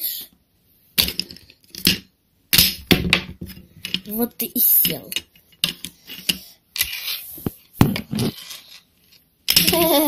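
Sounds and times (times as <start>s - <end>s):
plastic toys handled on table: 1.0s - 10.0s.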